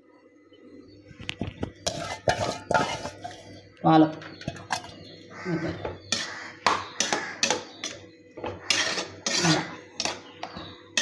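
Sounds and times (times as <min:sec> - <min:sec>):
ladle scraping metal pot: 0:01.5 - 0:11.0.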